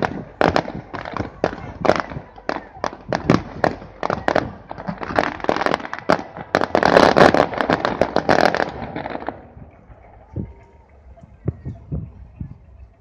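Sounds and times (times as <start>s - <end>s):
fireworks bangs and crackles: 0.0s - 12.4s.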